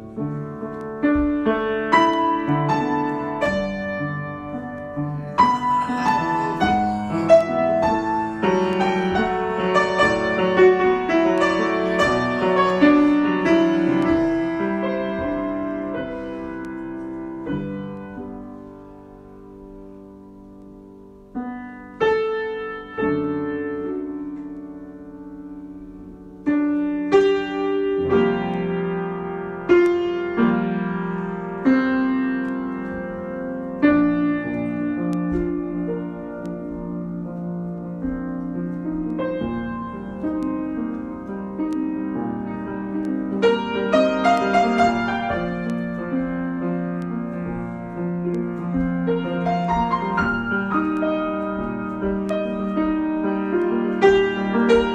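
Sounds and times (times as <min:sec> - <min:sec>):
solo piano chords: 0:00.0 - 0:54.9.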